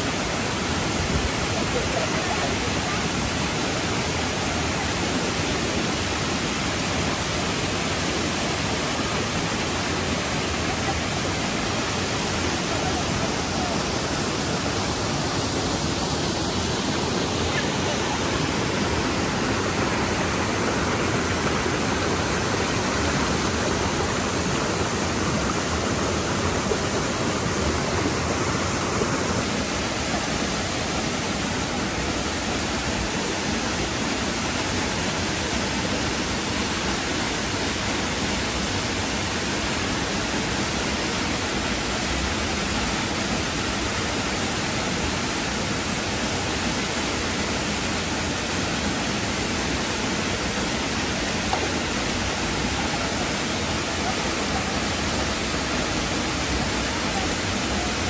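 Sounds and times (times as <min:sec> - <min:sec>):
stream running over stones: 0:00.0 - 0:58.0
waterfall rushing: 0:00.0 - 0:58.0.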